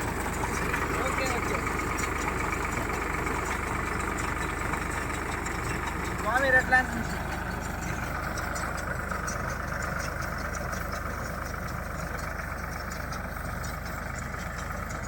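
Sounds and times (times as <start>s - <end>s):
tractor engine drone: 0.0s - 15.0s.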